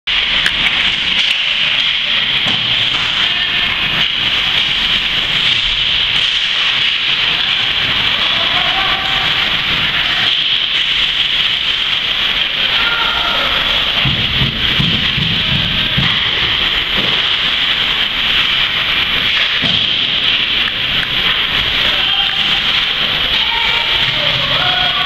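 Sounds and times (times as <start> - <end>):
hockey sticks and skates clacking: 0.1 - 25.0
steady hiss: 0.1 - 25.0.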